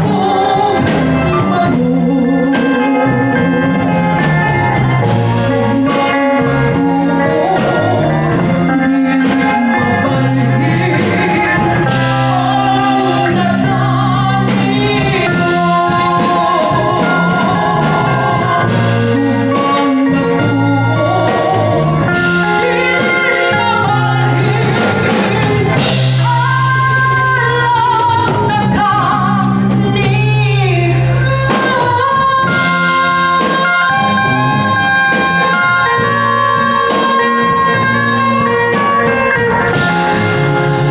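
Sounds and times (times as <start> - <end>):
woman singing: 0.0 - 39.9
live band playing: 0.0 - 40.9.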